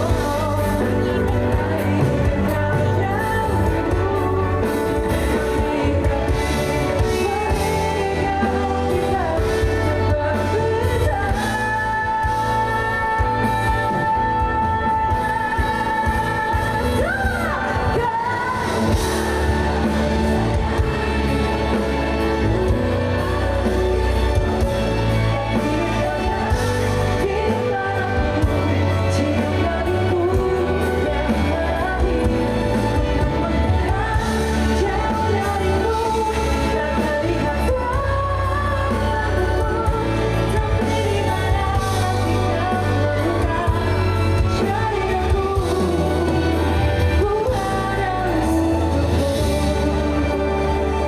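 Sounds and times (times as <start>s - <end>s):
live pop band: 0.0s - 51.0s
person singing: 0.0s - 51.0s
steady bass: 0.0s - 51.0s.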